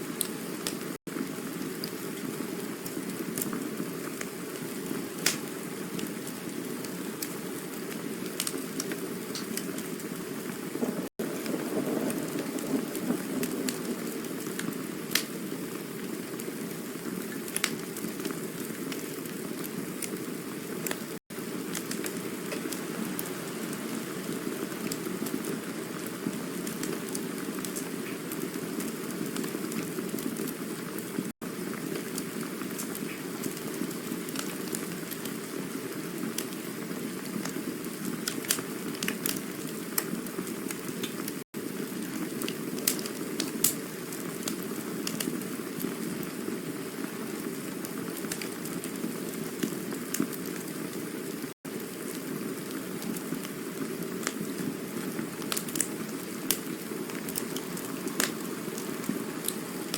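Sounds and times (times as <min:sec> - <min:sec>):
campfire hissing: 0:00.0 - 0:59.9
burning wood crackling and popping: 0:00.1 - 0:59.9.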